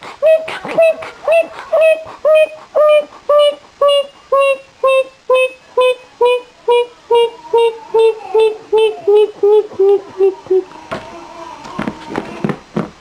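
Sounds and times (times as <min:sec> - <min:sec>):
donkey braying: 0:00.2 - 0:12.4.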